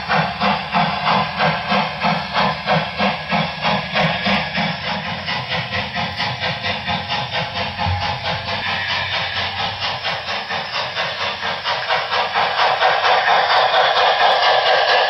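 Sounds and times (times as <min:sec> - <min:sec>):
steam locomotive exhaust chuffs: 0:00.0 - 0:15.0.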